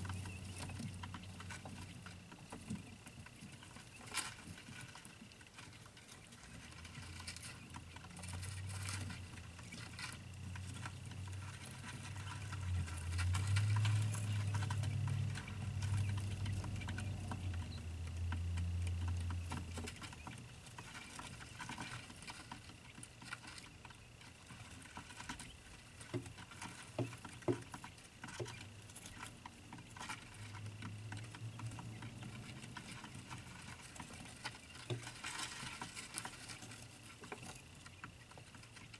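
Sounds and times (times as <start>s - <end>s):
chicks scratching and pattering: 0.0s - 38.9s.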